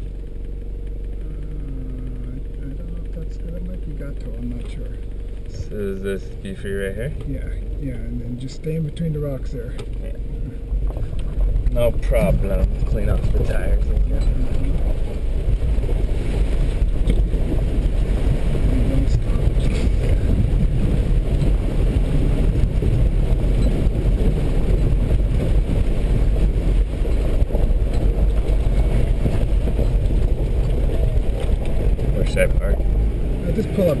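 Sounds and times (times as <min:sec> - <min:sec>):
vehicle engine and tyres rumbling: 0:00.0 - 0:34.0.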